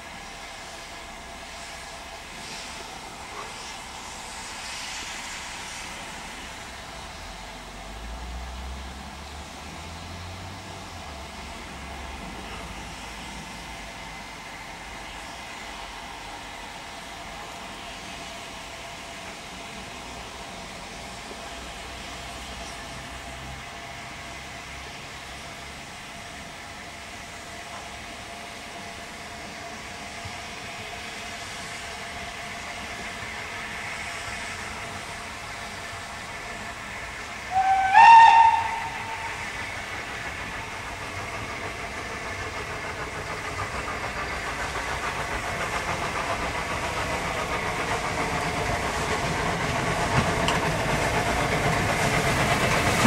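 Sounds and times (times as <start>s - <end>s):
steam locomotive hissing: 0.0s - 53.0s.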